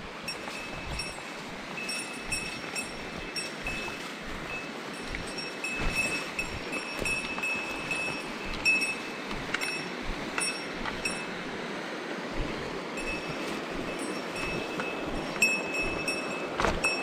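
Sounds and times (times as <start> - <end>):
mountain stream rushing: 0.0 - 17.0
small metal bell ringing: 0.3 - 1.2, 1.8 - 11.3, 13.0 - 17.0.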